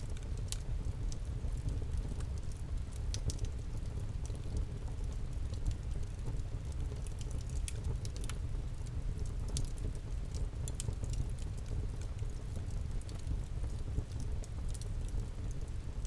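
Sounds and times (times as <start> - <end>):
low fire rumble: 0.0 - 16.0
campfire crackling: 0.1 - 15.7.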